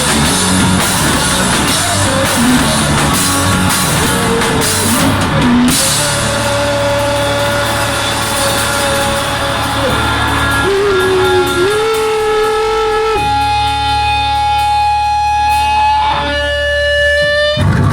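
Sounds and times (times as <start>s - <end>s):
electric guitar bending notes: 0.0s - 17.9s.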